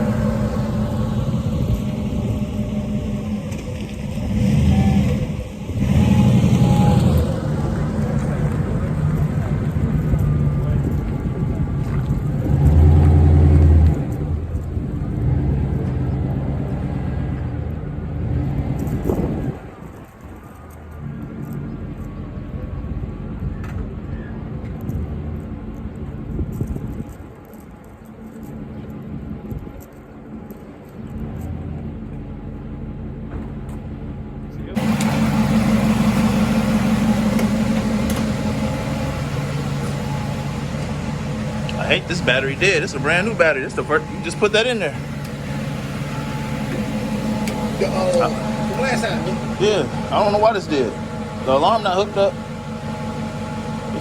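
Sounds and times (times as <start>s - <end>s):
car engine running: 0.0s - 27.0s, 31.0s - 54.0s.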